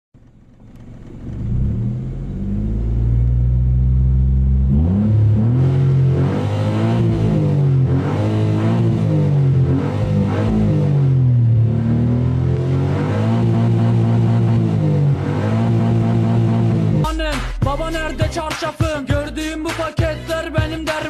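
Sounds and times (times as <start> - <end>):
car engine and loud exhaust: 0.2 - 18.5.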